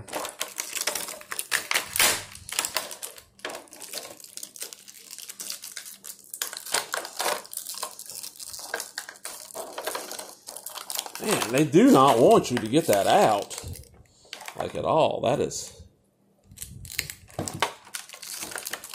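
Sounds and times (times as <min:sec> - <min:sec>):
plastic packaging crinkling: 0:00.0 - 0:14.9, 0:16.5 - 0:18.9.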